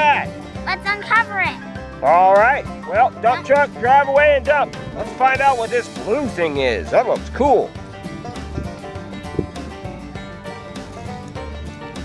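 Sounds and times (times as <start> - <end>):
background music steady rhythm: 0.0 - 12.0.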